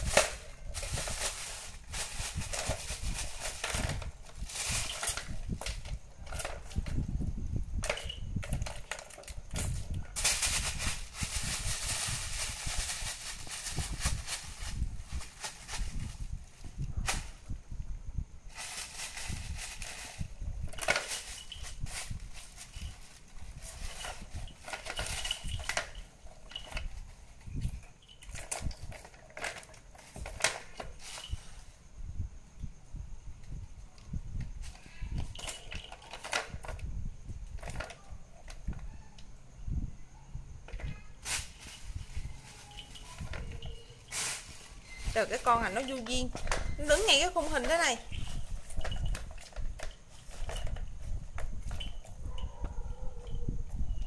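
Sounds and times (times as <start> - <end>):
plastic toy balls clattering: 0.0 - 7.1, 7.8 - 17.4, 18.5 - 31.6, 34.6 - 36.9, 37.5 - 38.8, 40.6 - 52.1
steady hissing rustle: 0.0 - 7.2, 9.0 - 37.6, 39.4 - 52.3.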